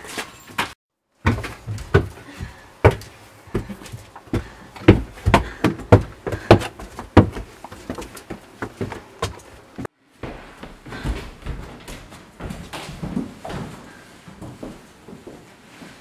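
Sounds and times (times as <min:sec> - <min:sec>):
footsteps on wooden stairs: 0:00.0 - 0:15.9.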